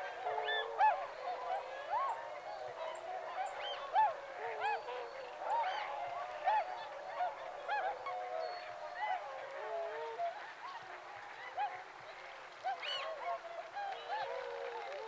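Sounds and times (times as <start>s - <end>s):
flock of waterbirds calling: 0.0s - 15.0s.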